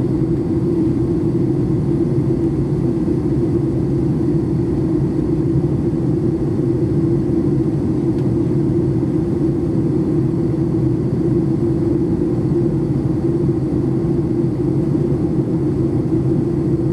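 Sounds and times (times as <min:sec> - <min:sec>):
airplane cabin engine drone: 0:00.0 - 0:16.9.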